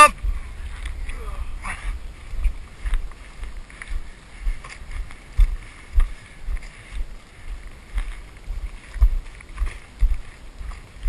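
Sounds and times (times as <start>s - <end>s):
footsteps on dry dirt: 0.0s - 11.0s
wind rumbling on microphone: 0.0s - 11.0s
low thuds: 0.1s - 11.0s.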